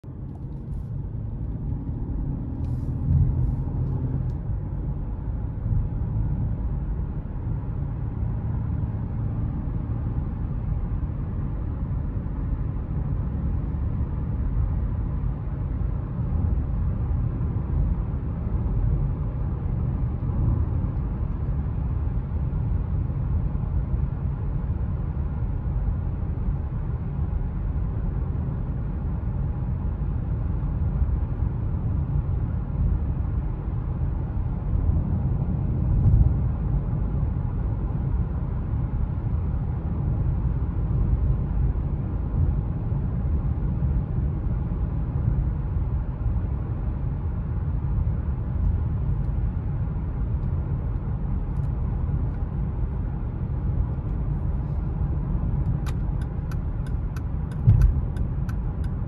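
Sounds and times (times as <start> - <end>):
car cabin road and tyre noise: 0.0 - 59.0.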